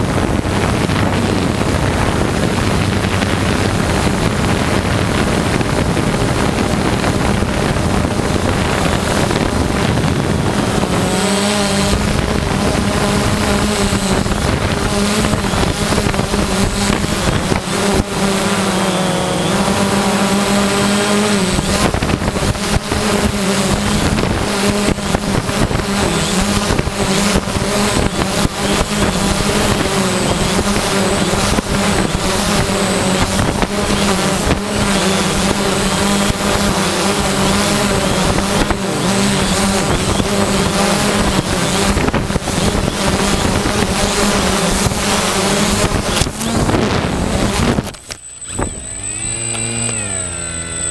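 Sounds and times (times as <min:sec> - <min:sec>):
motor humming: 0:00.0 - 0:50.9.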